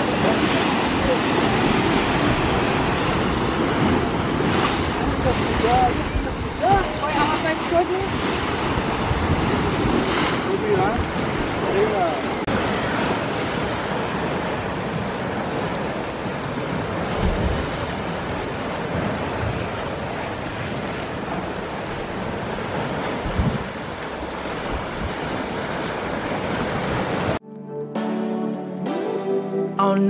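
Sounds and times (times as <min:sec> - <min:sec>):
sea waves splashing against cliffs: 0:00.0 - 0:27.4
wind buffeting microphone: 0:00.1 - 0:13.7, 0:16.7 - 0:27.4.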